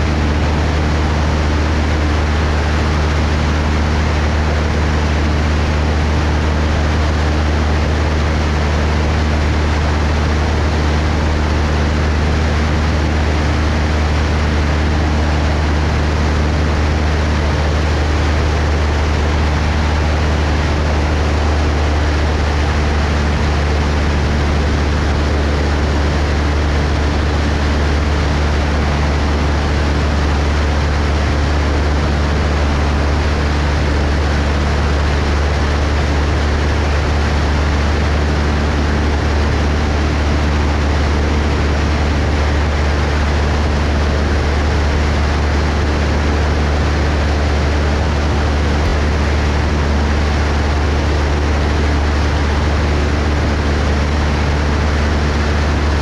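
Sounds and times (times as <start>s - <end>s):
airplane engine droning: 0.0s - 56.0s
rush of air noise: 0.0s - 56.0s.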